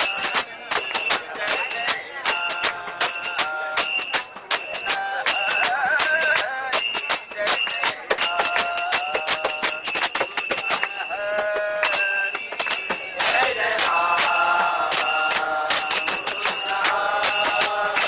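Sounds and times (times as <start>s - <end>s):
jingling hand percussion: 0.0s - 18.0s
people singing a devotional song: 0.0s - 18.0s.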